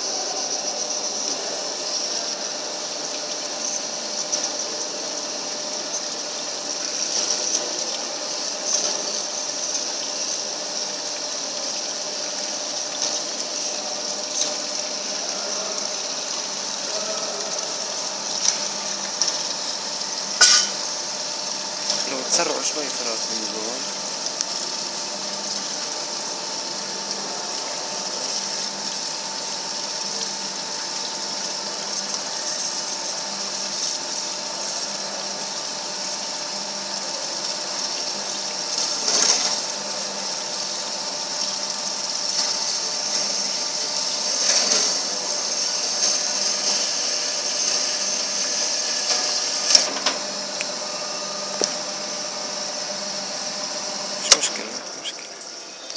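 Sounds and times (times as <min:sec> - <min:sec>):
band saw running: 0:00.0 - 0:55.9.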